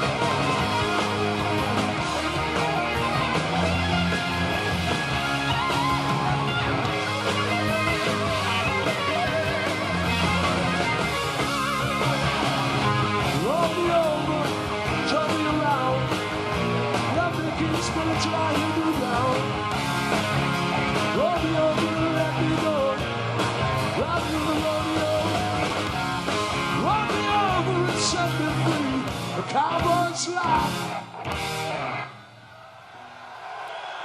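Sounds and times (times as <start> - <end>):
upbeat rock and roll song: 0.0 - 32.2.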